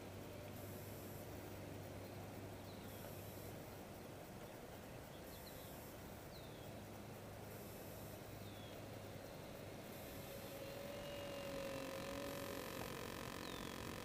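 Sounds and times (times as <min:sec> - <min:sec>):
outdoor hiss: 0:00.0 - 0:14.0
steady low hum: 0:00.0 - 0:14.0.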